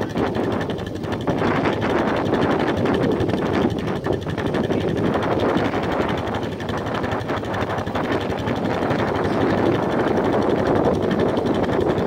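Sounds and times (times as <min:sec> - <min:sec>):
atv engine running: 0:00.0 - 0:12.0
water churning: 0:00.0 - 0:12.0.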